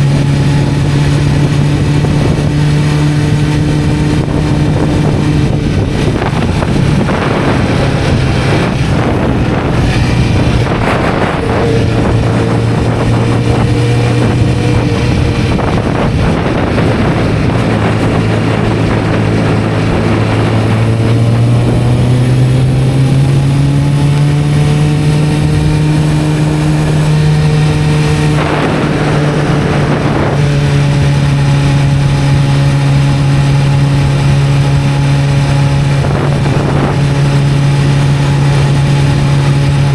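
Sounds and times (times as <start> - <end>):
motorcycle engine accelerating: 0.0 - 39.9
wind rushing past: 0.0 - 39.9.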